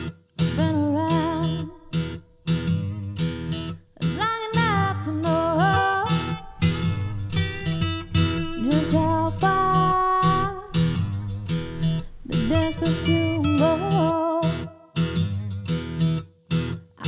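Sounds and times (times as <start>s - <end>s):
guitar-led song: 0.0s - 17.0s.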